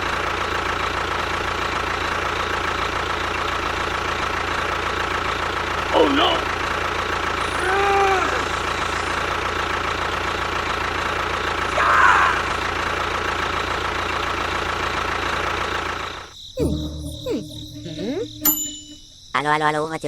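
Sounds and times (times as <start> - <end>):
small engine running: 0.0 - 18.9.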